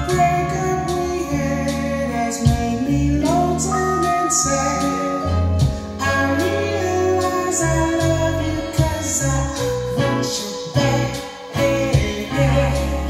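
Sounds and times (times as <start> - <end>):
song with singer from cassette: 0.0 - 13.0.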